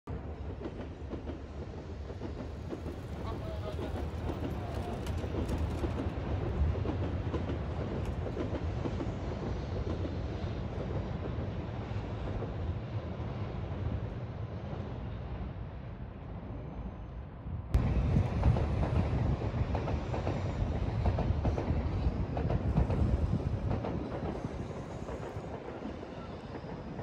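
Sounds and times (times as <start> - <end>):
trains rumbling along tracks: 0.1 - 27.0.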